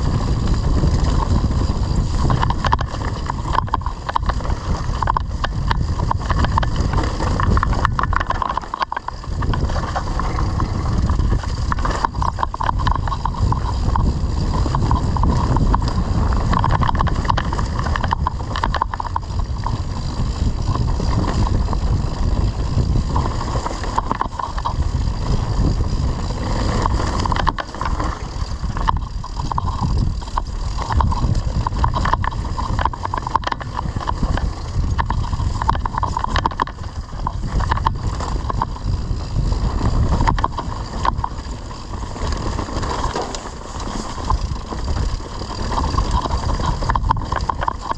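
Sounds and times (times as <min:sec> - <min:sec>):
bike tyres rumbling and rattling: 0:00.0 - 0:47.9
wind buffeting microphone: 0:00.0 - 0:47.9.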